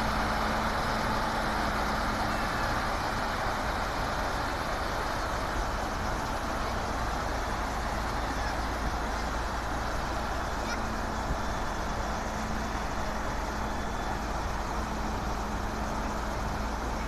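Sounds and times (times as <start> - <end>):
diesel engines running: 0.0 - 17.0
engine hum: 0.0 - 17.0.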